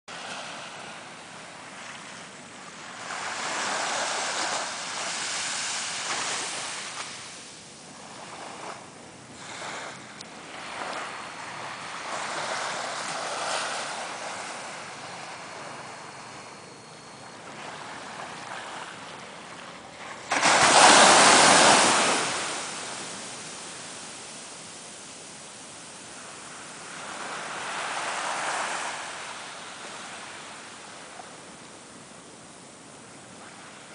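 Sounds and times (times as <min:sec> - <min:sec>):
small waves breaking on beach: 0:00.1 - 0:33.9.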